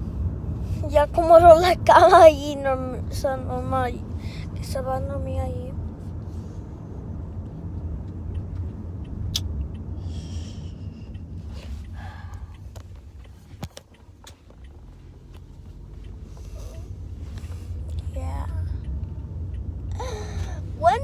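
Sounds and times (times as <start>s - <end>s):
car interior rumble: 0.0s - 21.0s.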